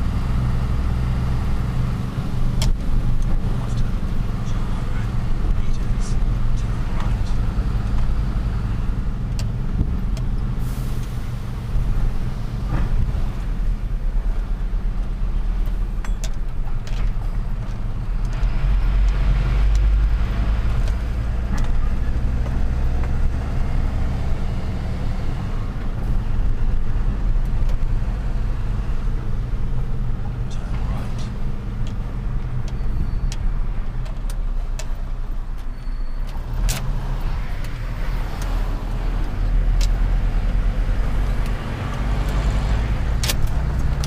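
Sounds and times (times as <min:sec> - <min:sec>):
road noise: 0:00.0 - 0:44.0
truck engine droning: 0:00.0 - 0:44.0.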